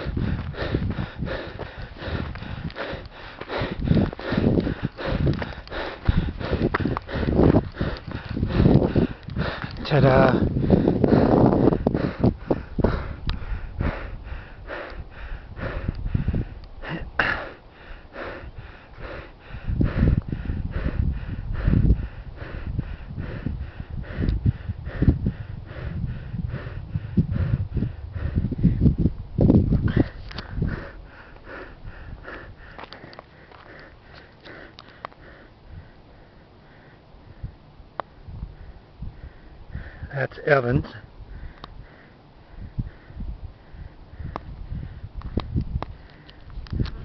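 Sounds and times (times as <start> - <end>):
heavy rapid breathing: 0.0 - 29.0, 29.6 - 37.6, 38.2 - 47.0.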